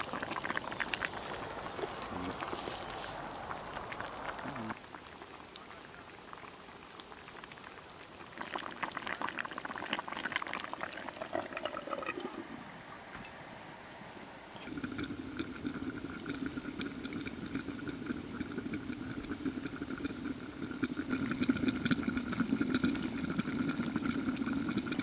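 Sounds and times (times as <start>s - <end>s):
stew bubbling at a boil: 0.0s - 13.3s, 14.6s - 25.0s.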